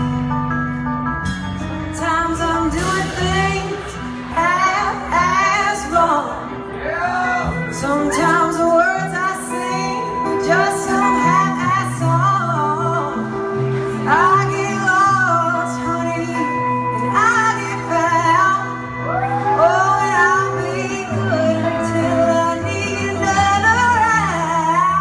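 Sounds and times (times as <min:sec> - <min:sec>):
drum kit: 0:00.0 - 0:25.0
electric guitar: 0:00.0 - 0:25.0
woman singing: 0:01.9 - 0:25.0.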